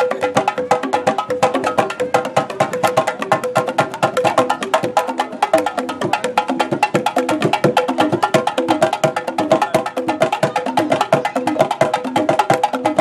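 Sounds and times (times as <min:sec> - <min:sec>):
fast percussion beat: 0:00.0 - 0:13.0.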